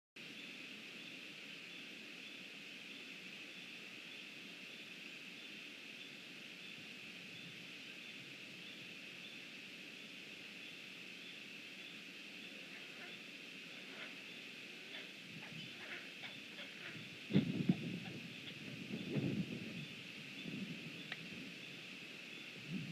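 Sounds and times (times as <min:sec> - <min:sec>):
steady background hiss: 0:00.2 - 0:22.9.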